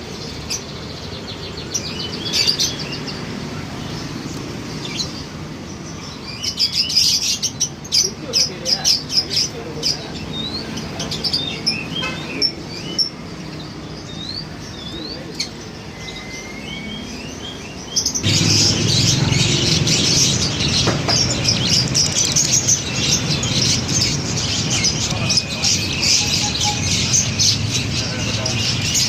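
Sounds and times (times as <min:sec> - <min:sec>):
lovebirds chirping: 0:00.0 - 0:29.0
many birds chattering: 0:00.0 - 0:29.0.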